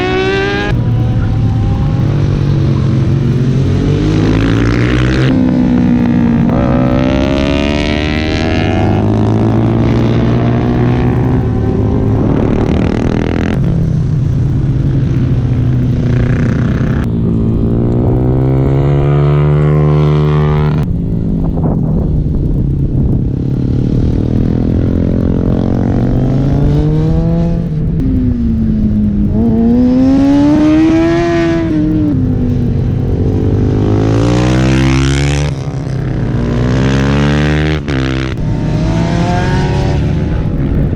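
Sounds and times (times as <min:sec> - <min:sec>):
motorcycle engines at high revs: 0:00.0 - 0:20.9, 0:21.6 - 0:40.9.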